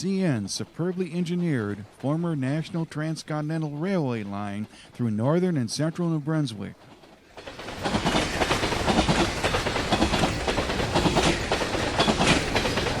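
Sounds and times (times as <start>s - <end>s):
train rumble: 0.0s - 13.0s
train wheels clicking over rails: 0.4s - 13.0s.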